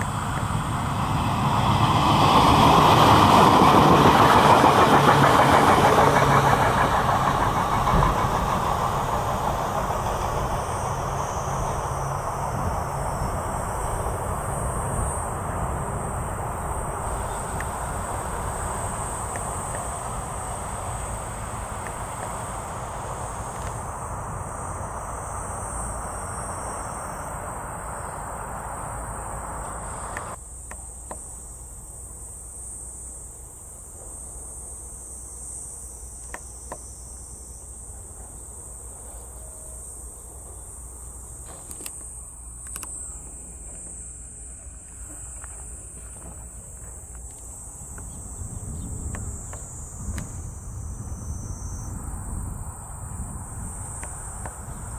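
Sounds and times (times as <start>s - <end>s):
freight train rumble: 0.0s - 54.9s
insects shrilling in grass: 7.6s - 54.9s.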